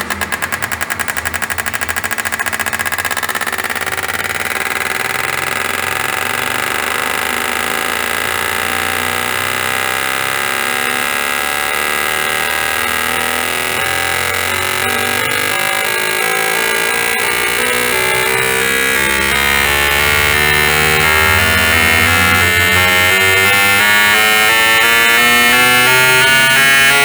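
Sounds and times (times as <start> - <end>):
fuel injectors clicking: 0.0 - 27.0.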